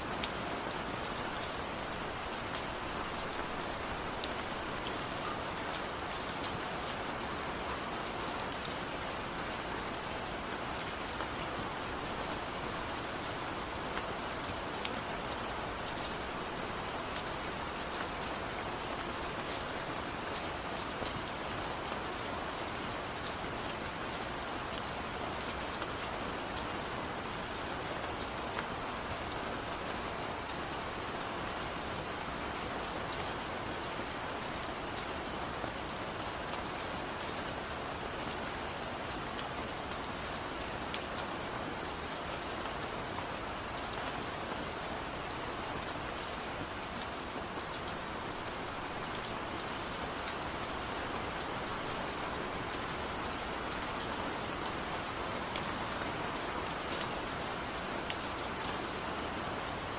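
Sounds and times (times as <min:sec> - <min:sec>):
rain patter: 0:00.0 - 0:59.9.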